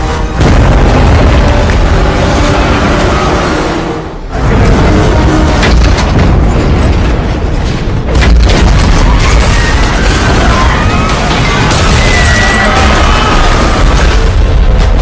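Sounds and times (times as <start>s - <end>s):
dramatic film music: 0.0s - 15.0s.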